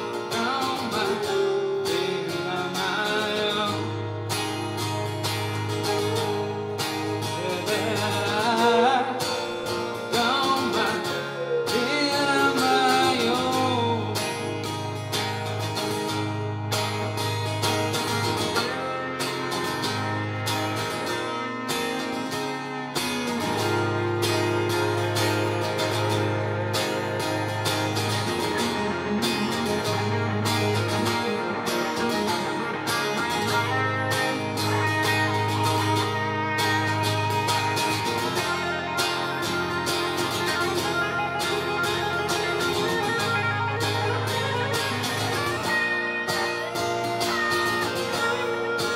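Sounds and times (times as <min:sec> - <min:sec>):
two guitars playing: 0:00.0 - 0:48.9.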